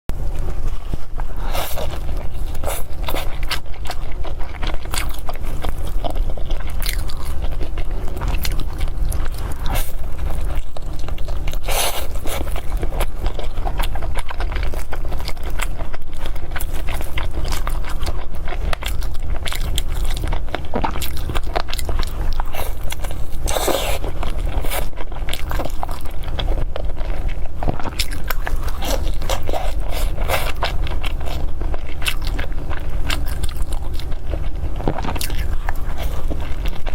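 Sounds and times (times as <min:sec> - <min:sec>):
steady low hum: 0:00.1 - 0:36.9
chewing rice and meat: 0:00.2 - 0:36.9.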